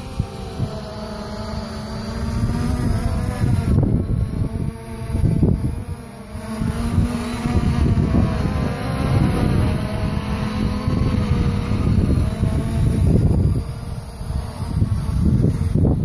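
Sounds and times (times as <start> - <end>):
drone propellers buzzing: 0.0 - 16.0
wind buffeting microphone: 0.0 - 16.0.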